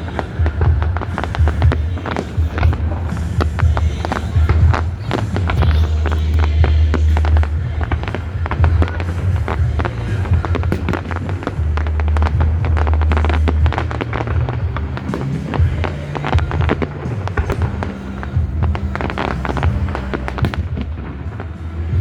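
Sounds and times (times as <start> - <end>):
fireworks bangs and crackles: 0.0 - 22.0
loud music with heavy bass: 0.0 - 22.0.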